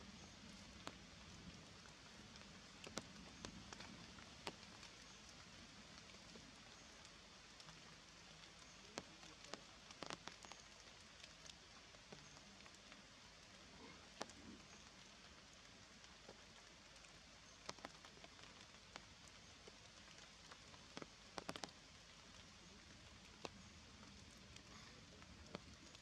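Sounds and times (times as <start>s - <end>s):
raindrops dripping on leaves: 0.0s - 26.0s
soft steady hiss: 0.0s - 26.0s.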